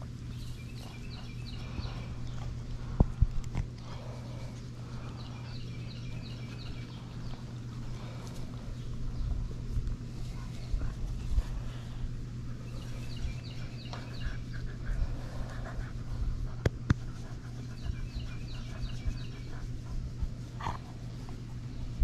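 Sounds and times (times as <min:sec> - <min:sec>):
birds chirping: 0:00.0 - 0:22.0
dog panting: 0:00.4 - 0:22.0.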